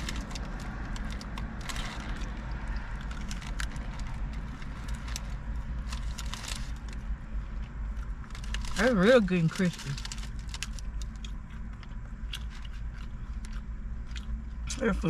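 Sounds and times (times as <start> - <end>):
chewing crispy food: 0.0 - 15.0
steady low hum: 0.0 - 15.0.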